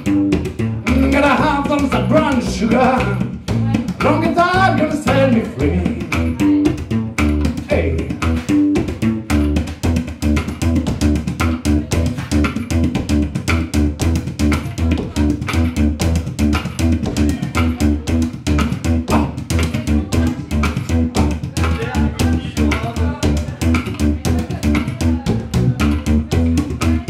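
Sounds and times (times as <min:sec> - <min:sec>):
upright bass line: 0:00.0 - 0:27.0.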